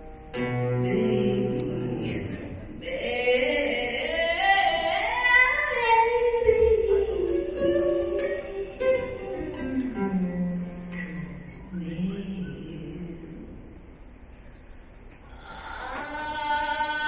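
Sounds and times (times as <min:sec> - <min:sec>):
woman singing blues: 0:00.4 - 0:13.8, 0:15.3 - 0:17.0.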